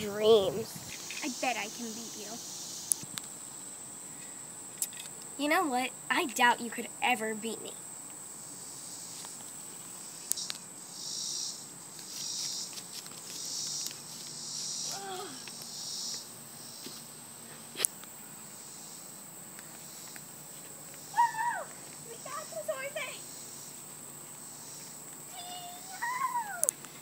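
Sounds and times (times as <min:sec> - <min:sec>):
insects buzzing in pulses: 0:00.0 - 0:27.0.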